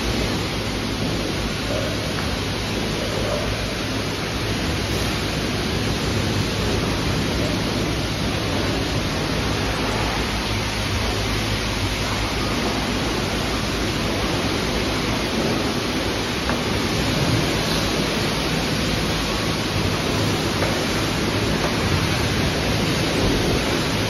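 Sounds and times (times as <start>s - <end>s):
rushing water and foam hiss: 0.0s - 24.0s.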